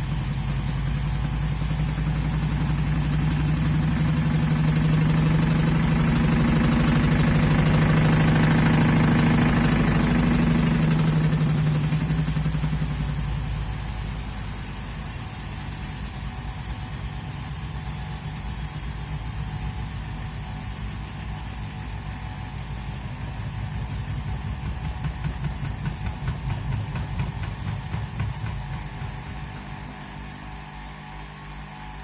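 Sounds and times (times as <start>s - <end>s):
fast pulsing rattle: 0.0s - 29.9s
washing machine motor hum: 0.0s - 32.0s.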